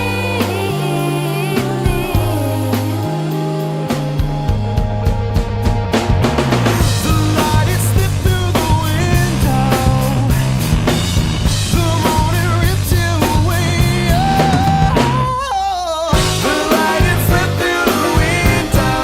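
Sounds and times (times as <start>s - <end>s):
song with drums and bass: 0.0s - 19.0s.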